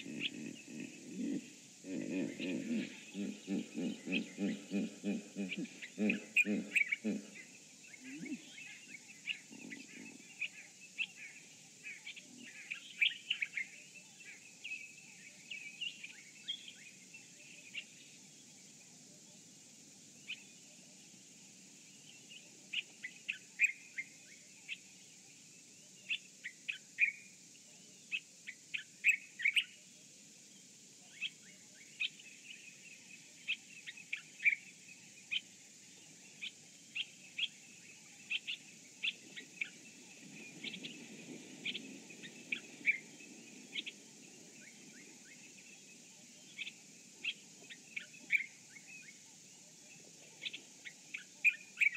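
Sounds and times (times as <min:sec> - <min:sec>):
wild birds chirping: 0:00.0 - 0:51.9.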